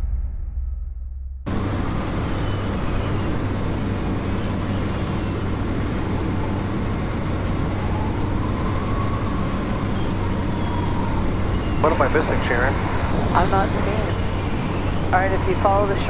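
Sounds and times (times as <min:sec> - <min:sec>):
airplane engine and propeller drone: 0:01.5 - 0:16.0
rushing wind: 0:01.5 - 0:16.0.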